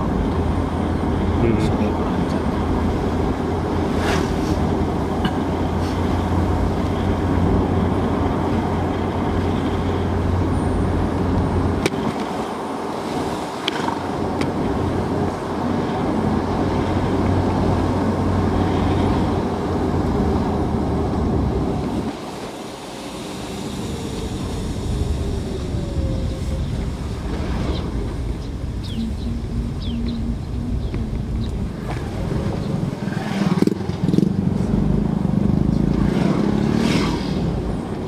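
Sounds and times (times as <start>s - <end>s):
engine and tyre rumble: 0.0s - 38.0s.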